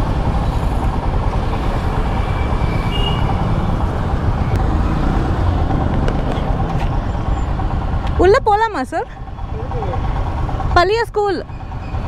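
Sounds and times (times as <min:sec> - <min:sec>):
motorcycle engine running: 0:00.0 - 0:12.0
street traffic noise: 0:00.0 - 0:12.0.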